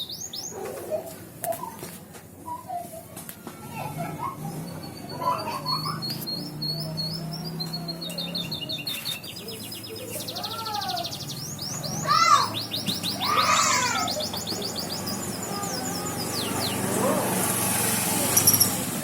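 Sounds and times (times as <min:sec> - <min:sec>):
canary singing trills: 0:00.0 - 0:00.7, 0:04.2 - 0:19.0.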